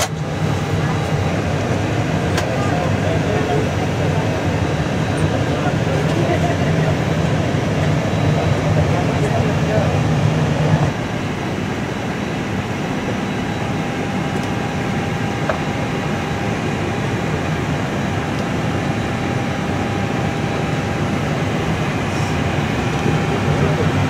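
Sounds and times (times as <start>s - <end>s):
air conditioning rushing and hum: 0.0s - 24.0s.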